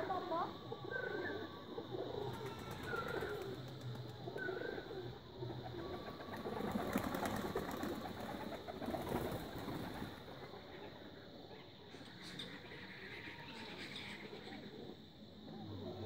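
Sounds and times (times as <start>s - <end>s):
pigeons cooing: 0.0s - 11.2s, 11.9s - 16.0s.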